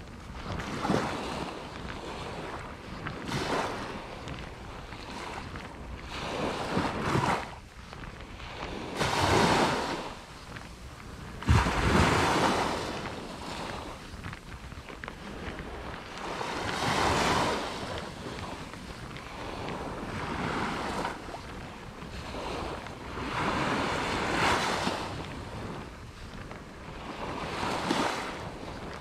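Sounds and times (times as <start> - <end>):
small waves breaking on sand: 0.0 - 29.0
wind buffeting microphone: 0.0 - 29.0.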